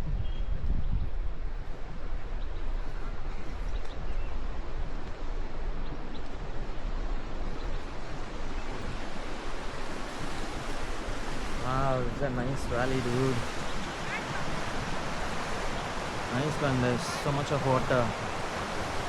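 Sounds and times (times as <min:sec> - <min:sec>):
low wind buffeting: 0:00.0 - 0:19.0
wind hiss on microphone: 0:00.0 - 0:19.0.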